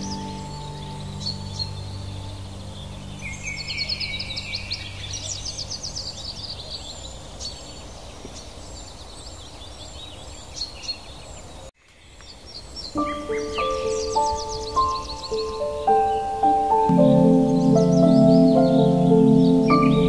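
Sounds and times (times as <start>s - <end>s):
songbirds singing and chirping: 0.0s - 20.0s
steady background hiss: 0.0s - 20.0s.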